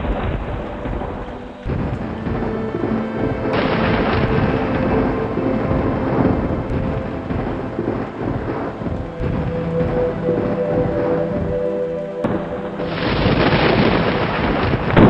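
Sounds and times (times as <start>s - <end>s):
rolling thunder: 0.0s - 15.0s
soft music pad: 0.0s - 15.0s
steady rain: 0.0s - 15.0s.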